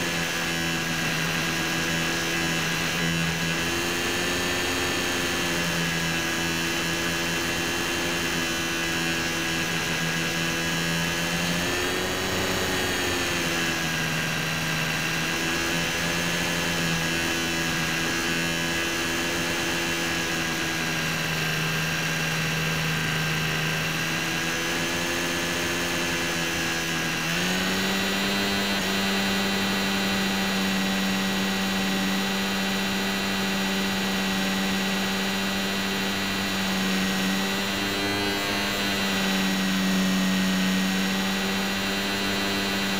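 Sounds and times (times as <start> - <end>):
model plane motor whine: 0.0 - 42.9.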